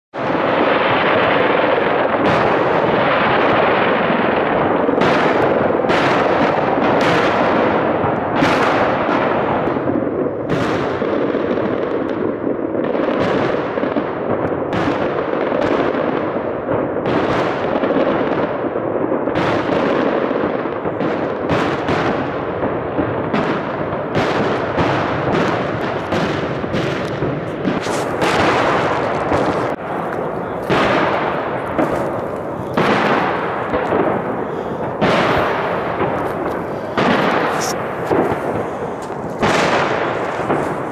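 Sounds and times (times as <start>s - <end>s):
fireworks bangs: 0.1s - 40.9s.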